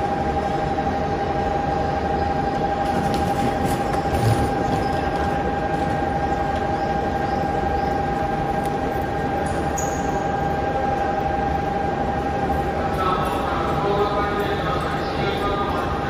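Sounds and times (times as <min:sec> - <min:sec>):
train steady high tone: 0:00.0 - 0:16.0.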